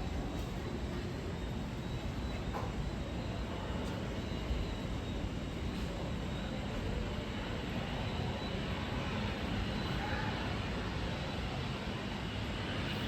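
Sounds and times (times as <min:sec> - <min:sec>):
aircraft engine rumble: 0:00.0 - 0:13.0
faint high whine: 0:00.0 - 0:13.0.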